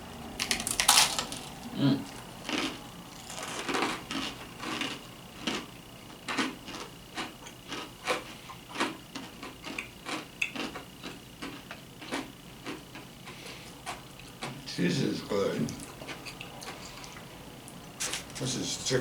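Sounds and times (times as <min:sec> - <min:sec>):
chewing crunchy crackers: 0:00.0 - 0:19.0.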